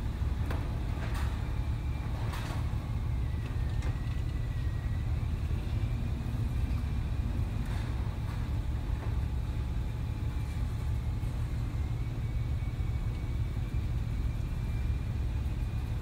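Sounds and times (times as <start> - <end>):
low ship rumble: 0.0 - 16.0.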